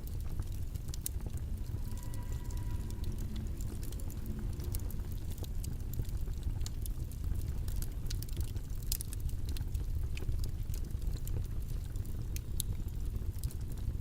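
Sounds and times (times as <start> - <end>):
faint crackling clicks: 0.0 - 13.8
low background rumble: 0.0 - 14.0.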